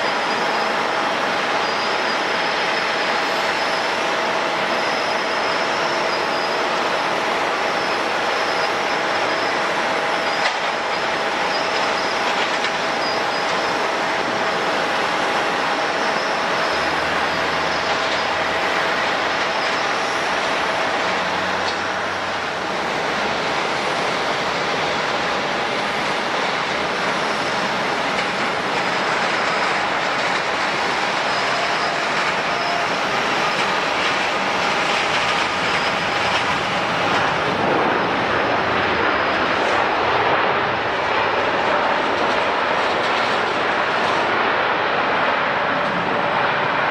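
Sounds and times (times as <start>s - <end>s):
jet engines rushing: 0.0s - 46.9s.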